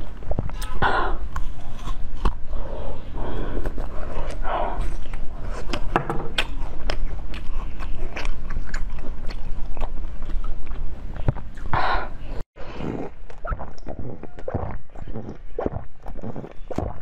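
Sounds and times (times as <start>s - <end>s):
biting and chewing juicy fruit: 0.0s - 17.0s.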